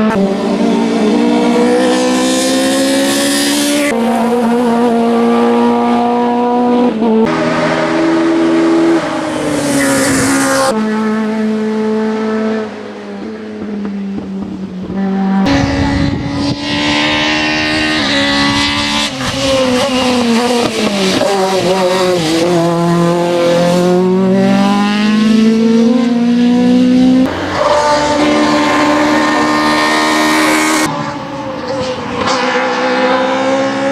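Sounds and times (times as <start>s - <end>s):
race car engine revving: 0.0s - 33.9s.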